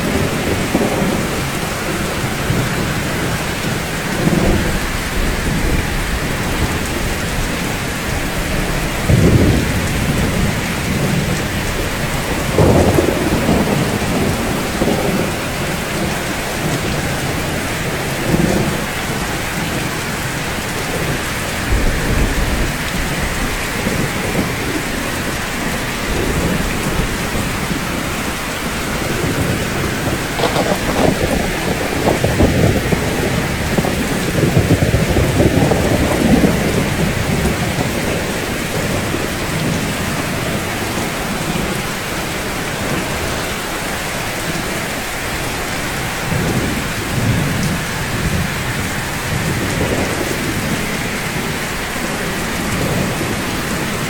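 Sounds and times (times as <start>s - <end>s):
thunder rolling: 0.0s - 43.7s, 45.3s - 54.0s
rain on rooftops: 0.0s - 54.0s.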